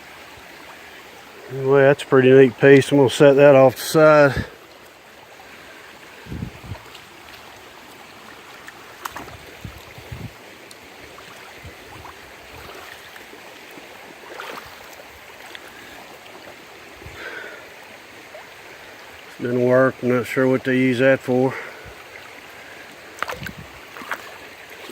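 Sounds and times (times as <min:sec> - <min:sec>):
creek water flowing: 0:00.0 - 0:24.9.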